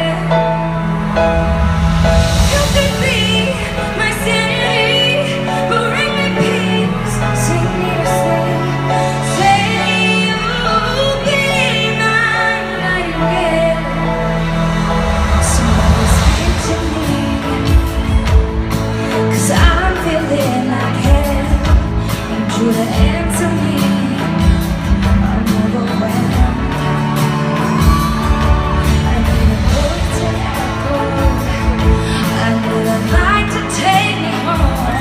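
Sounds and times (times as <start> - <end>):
woman singing: 0.0 - 0.8, 2.4 - 14.6, 15.2 - 35.0
live pop ballad band: 0.0 - 35.0.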